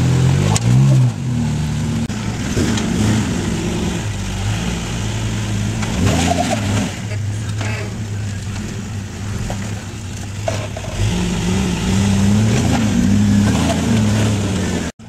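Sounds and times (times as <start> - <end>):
off-road vehicle engine crawling: 0.0 - 15.0.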